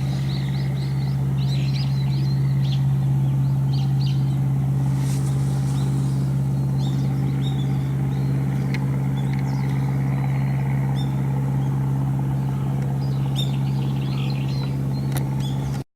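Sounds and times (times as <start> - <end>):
low engine hum: 0.0 - 15.8
small birds chirping: 0.0 - 15.8.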